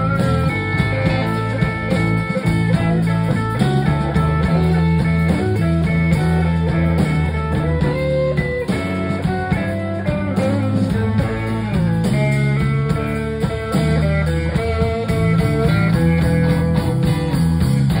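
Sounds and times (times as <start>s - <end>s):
blues band playing: 0.0s - 18.0s
electric guitar lead lines: 0.0s - 18.0s.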